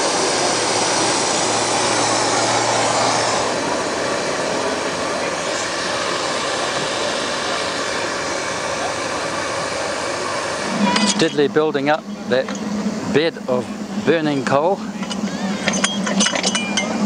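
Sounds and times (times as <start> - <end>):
low hum: 0.0 - 17.0
steady rushing noise: 0.0 - 17.0.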